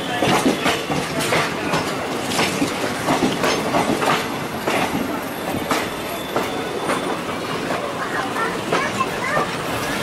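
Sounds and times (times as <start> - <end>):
train rolling rumble: 0.0 - 10.0
train wheels clacking on rail joints: 0.0 - 10.0.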